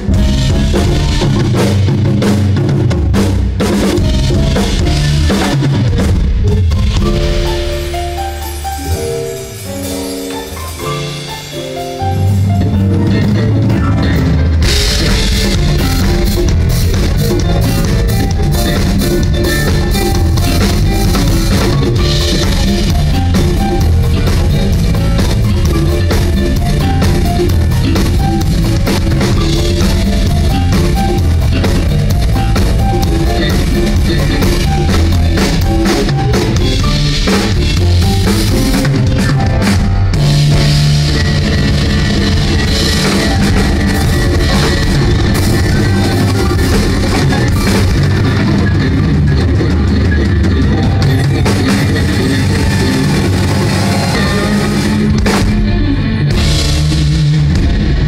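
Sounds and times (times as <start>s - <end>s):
drum kit: 0.0s - 58.0s
electric bass: 0.0s - 58.0s
live band playing: 0.0s - 58.0s.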